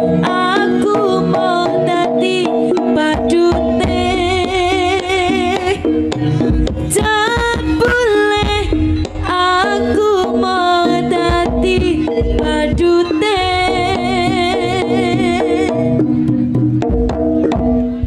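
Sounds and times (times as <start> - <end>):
drums beating: 0.0 - 18.0.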